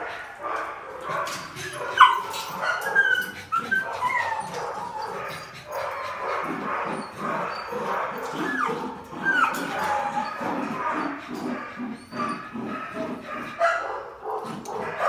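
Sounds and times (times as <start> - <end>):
puppies yipping and whining: 1.1 - 14.0.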